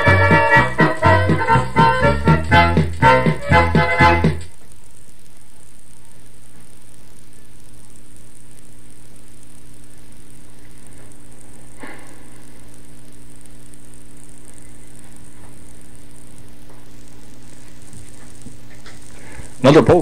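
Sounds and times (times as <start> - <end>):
electrical hum and hiss: 0.0 - 20.0
faint high whine: 0.0 - 20.0.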